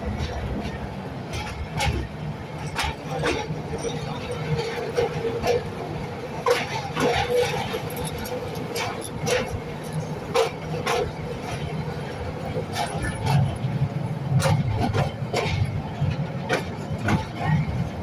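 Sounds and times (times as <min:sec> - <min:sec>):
train rumbling: 0:00.0 - 0:18.0
wheels clacking over rails: 0:00.0 - 0:18.0.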